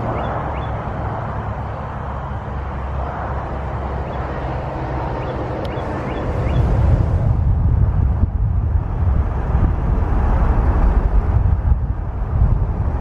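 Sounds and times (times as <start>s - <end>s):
car road and wind noise: 0.0s - 13.0s
passing traffic hiss: 0.0s - 13.0s.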